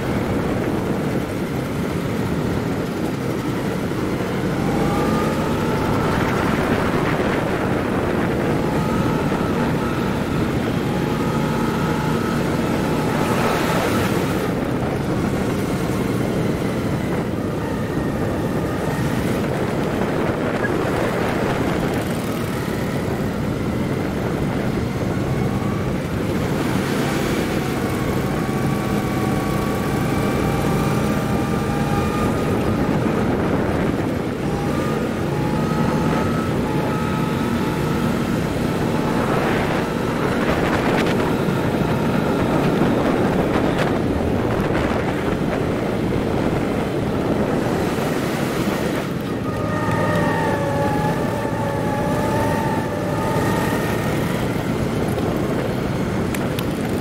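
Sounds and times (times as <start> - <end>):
go-kart engines racing: 0.0 - 57.0
wind rumble on microphone: 0.0 - 57.0.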